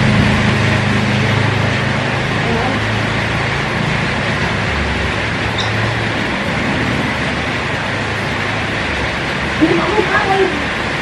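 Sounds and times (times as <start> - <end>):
even background rush: 0.0 - 11.0
low hum: 0.0 - 11.0.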